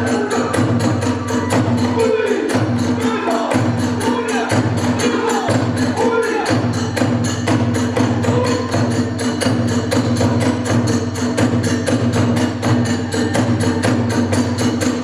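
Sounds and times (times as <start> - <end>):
drums beating fast: 0.0 - 15.0.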